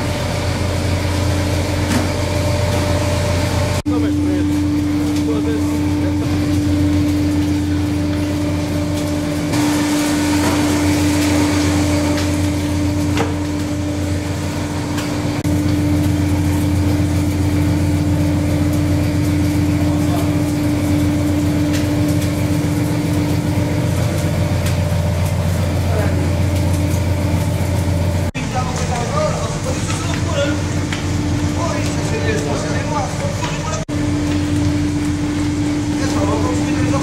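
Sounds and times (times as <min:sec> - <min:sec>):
engine and machinery drone: 0:00.0 - 0:37.0
steady mechanical whine: 0:00.0 - 0:37.0.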